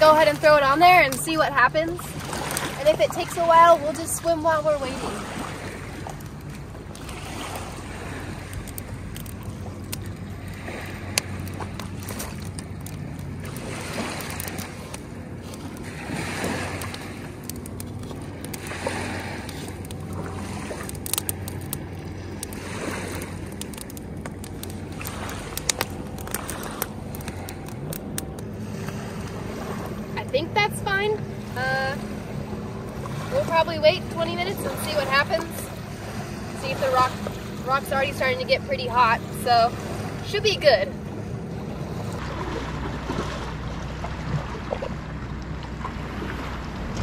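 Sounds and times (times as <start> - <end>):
low engine hum: 0.0 - 47.0
wind gusting over microphone: 0.0 - 47.0.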